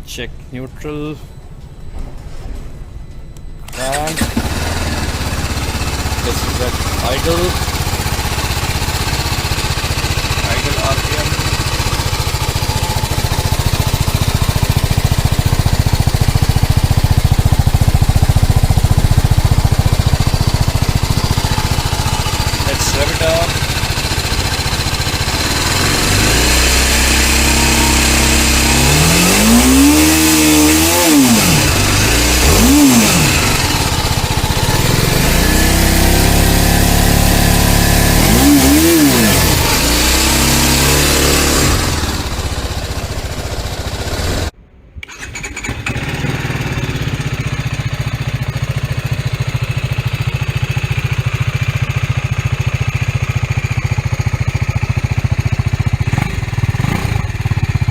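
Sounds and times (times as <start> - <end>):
motorcycle engine idling and revving: 3.7 - 57.9.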